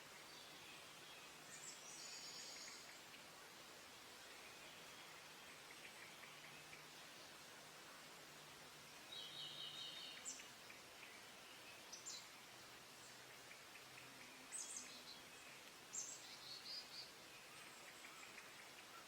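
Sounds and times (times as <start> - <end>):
soft steady hiss: 0.0 - 19.0
songbirds chirping: 0.0 - 19.0.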